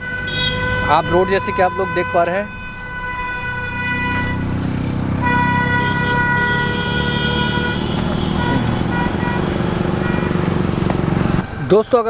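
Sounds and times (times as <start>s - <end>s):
vehicle horn blasts: 0.0s - 10.7s
vehicle engine running: 0.0s - 12.0s.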